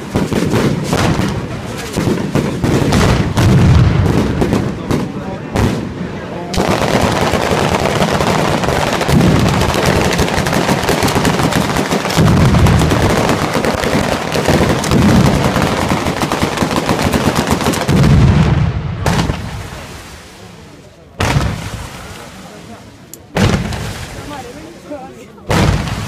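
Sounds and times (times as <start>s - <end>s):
rapid firecracker bangs: 0.0s - 20.3s, 21.2s - 22.6s, 23.3s - 24.6s, 25.5s - 26.0s
heavy firework booms: 0.0s - 20.4s, 21.2s - 22.4s, 23.3s - 24.6s, 25.5s - 26.0s.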